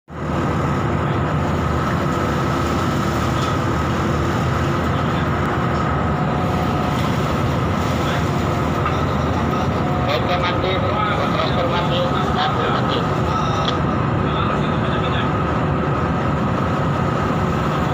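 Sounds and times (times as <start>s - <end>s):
boat engines droning: 0.1s - 17.9s.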